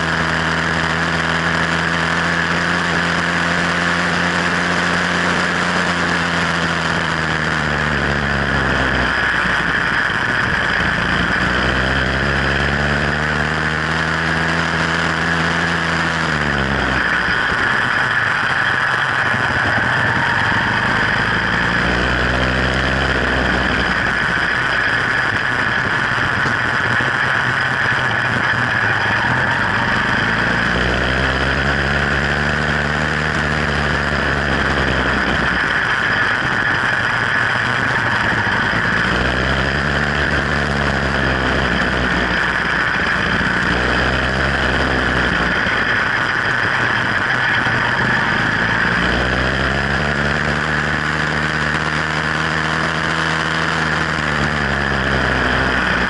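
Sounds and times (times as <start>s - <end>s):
two-stroke bicycle engine: 0.0s - 56.0s.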